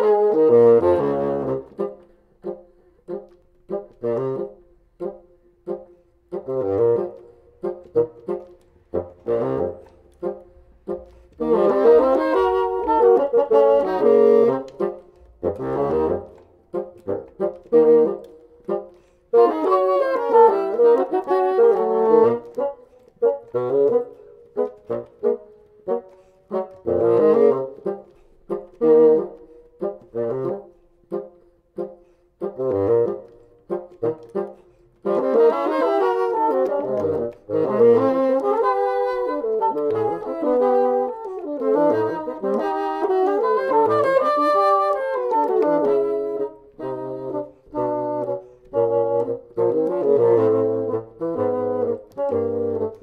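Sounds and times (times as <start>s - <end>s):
bassoon duet: 0.0s - 53.0s.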